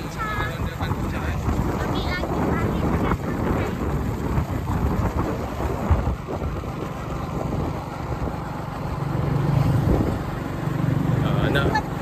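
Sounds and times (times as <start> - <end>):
road and wind noise: 0.0 - 12.0
vehicle engine hum: 0.0 - 12.0.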